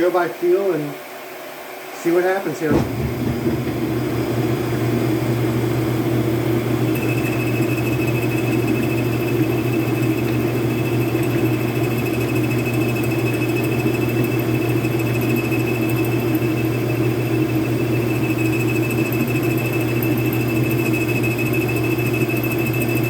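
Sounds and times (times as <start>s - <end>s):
metal lathe humming: 3.1s - 23.0s
thin high whine: 4.0s - 23.0s.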